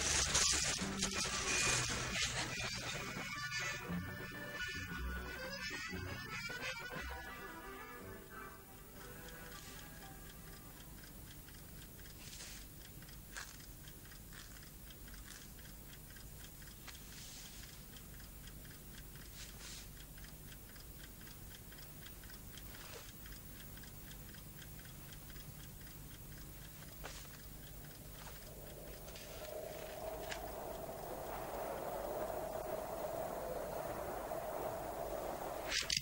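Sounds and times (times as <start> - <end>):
clock ticking: 0.0 - 36.0.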